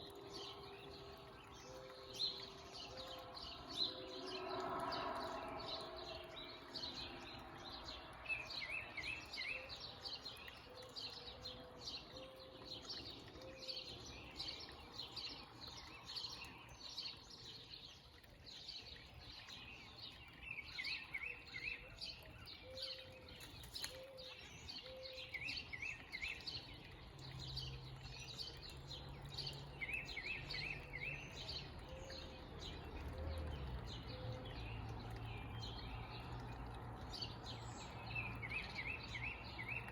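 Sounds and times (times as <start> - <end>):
bird song phrase: 0.0 - 39.9
birds chirping: 0.0 - 39.9.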